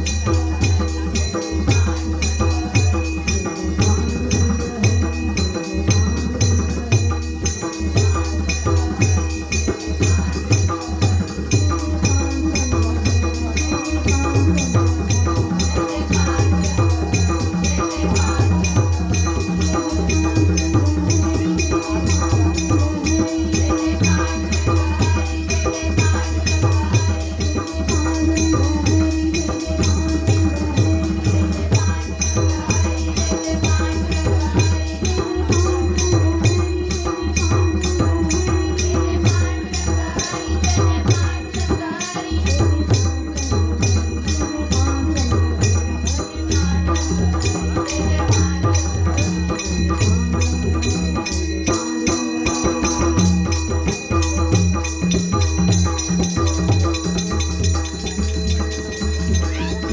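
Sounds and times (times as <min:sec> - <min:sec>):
devotional music with percussion: 0:00.0 - 0:59.9
jingling percussion: 0:00.0 - 0:59.9.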